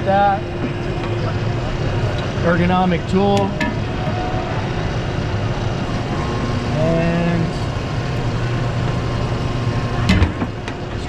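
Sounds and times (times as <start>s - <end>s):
faint steady whine: 0.0s - 11.0s
tire changer machine humming: 0.0s - 11.0s.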